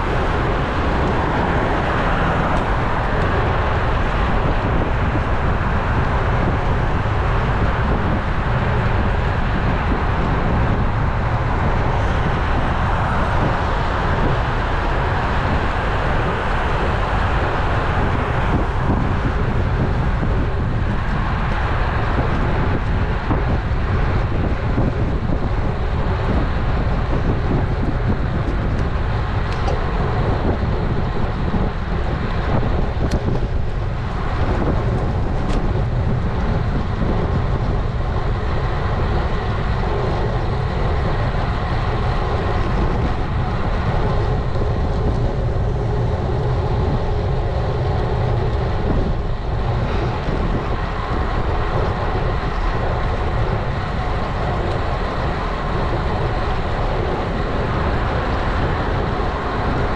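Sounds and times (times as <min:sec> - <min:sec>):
bicycle tyre noise on road: 0:00.0 - 0:59.9
wind rush on microphone: 0:00.0 - 0:59.9.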